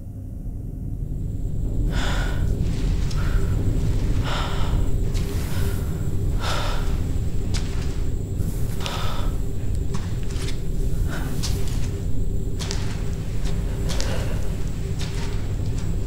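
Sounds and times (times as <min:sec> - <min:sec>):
low rumble: 0:00.0 - 0:16.0
woman breathing heavily: 0:01.2 - 0:16.0.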